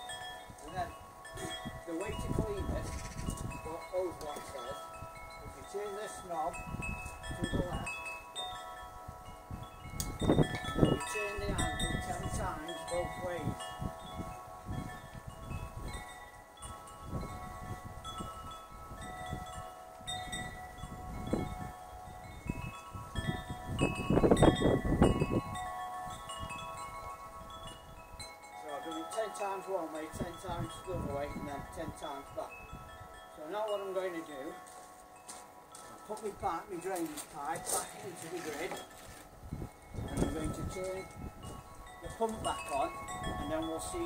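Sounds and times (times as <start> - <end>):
low rumbling wind gusts: 0.0 - 28.6, 30.0 - 33.4, 39.3 - 44.0
wind chimes ringing: 0.0 - 44.0.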